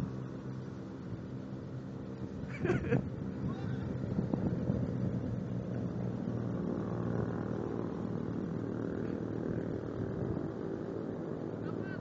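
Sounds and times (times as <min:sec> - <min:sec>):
model boat motor humming: 0:00.0 - 0:12.0.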